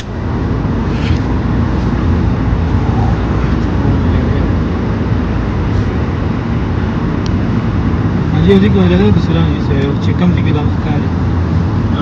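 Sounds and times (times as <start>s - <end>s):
loud low rumbling: 0.0s - 12.0s.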